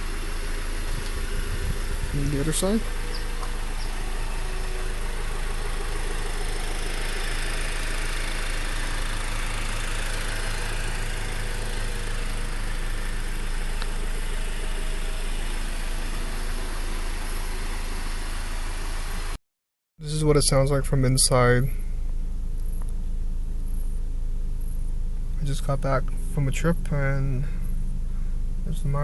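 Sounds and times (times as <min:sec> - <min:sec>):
car engine idling: 0:00.0 - 0:19.4, 0:20.1 - 0:29.0.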